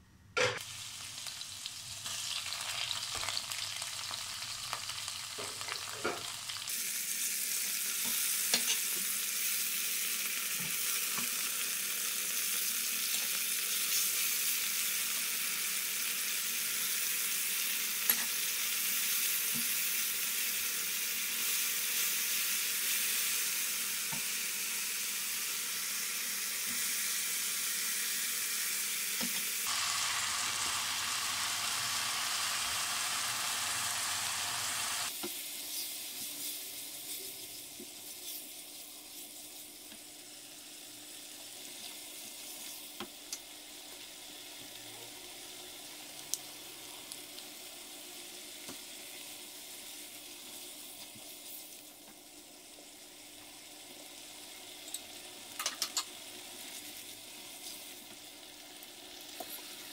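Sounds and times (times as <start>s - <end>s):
food sizzling in a wok: 0.6s - 59.9s.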